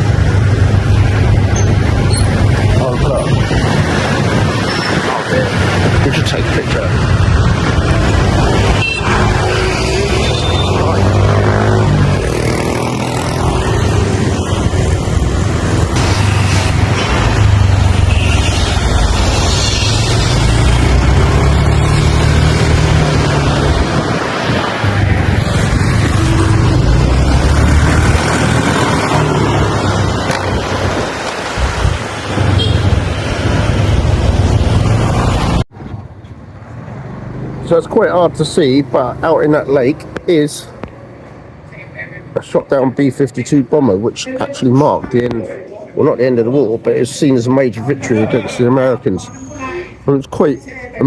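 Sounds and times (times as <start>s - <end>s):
road traffic rushing: 0.0s - 51.0s.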